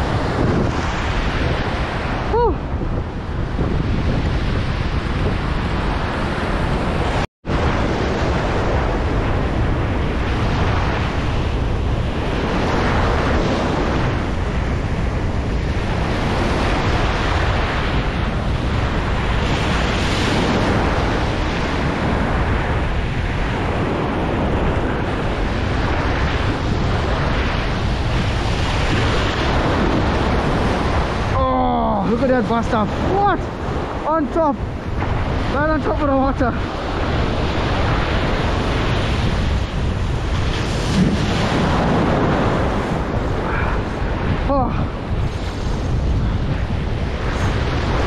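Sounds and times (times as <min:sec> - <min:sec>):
ocean surf breaking: 0:00.0 - 0:48.0
wind buffeting microphone: 0:00.0 - 0:48.0.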